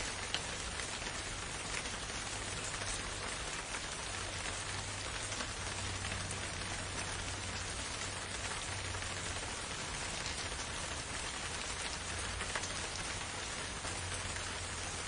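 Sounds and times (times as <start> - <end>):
rain falling on foliage: 0.0 - 15.0.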